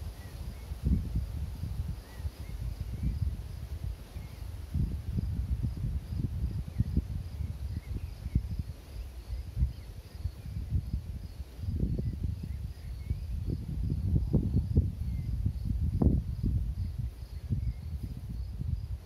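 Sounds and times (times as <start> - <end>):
faint insect chirping: 0.0 - 19.0
wind buffeting microphone: 0.0 - 19.0.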